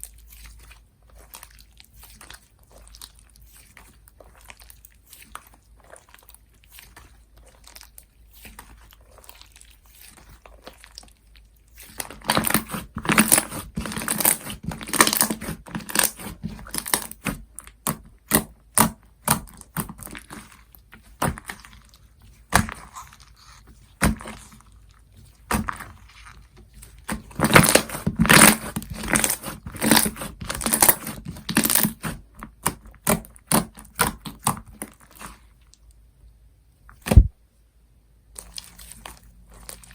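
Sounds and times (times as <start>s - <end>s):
slime crackling squishes: 0.0s - 36.0s, 38.2s - 39.9s.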